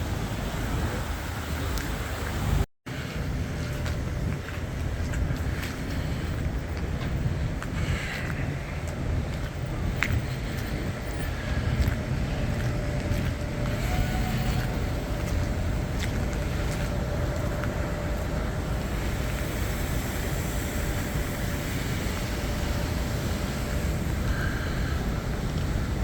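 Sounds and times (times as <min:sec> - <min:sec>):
low rumble of traffic: 0:00.0 - 0:26.0
wind on microphone: 0:00.0 - 0:26.0.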